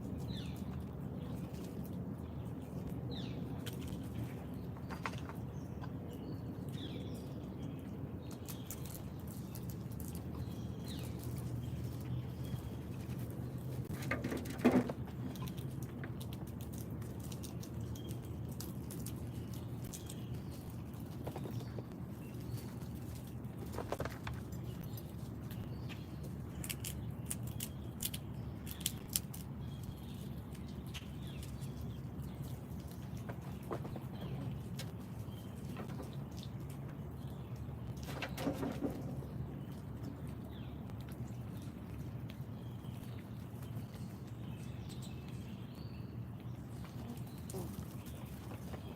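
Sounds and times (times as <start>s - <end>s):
low background rumble: 0.0s - 48.9s
small birds chirping: 0.0s - 48.9s.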